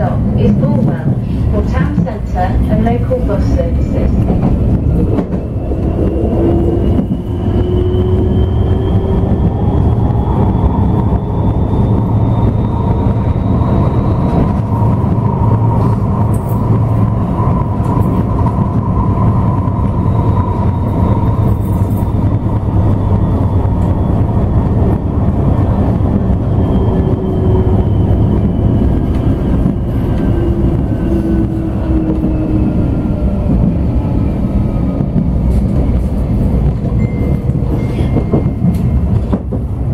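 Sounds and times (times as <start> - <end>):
tram motor whine: 0.0 - 39.9
wheels rumbling on rail: 0.0 - 39.9.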